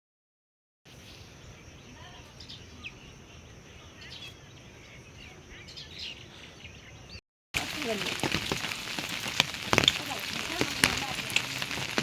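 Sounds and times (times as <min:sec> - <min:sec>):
birds chirping: 0:00.9 - 0:12.0.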